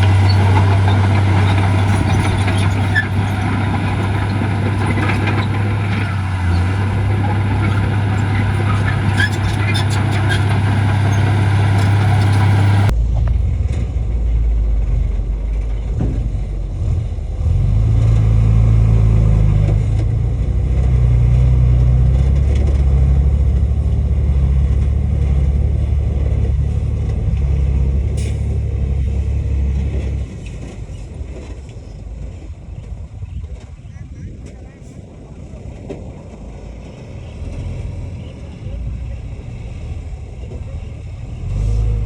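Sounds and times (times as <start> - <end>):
heavy diesel engine under load: 0.0 - 42.0.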